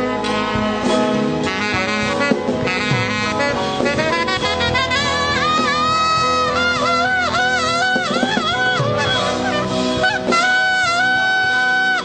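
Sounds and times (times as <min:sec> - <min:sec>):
sustained band chords: 0:00.0 - 0:12.0
wind instrument melody: 0:00.0 - 0:12.0.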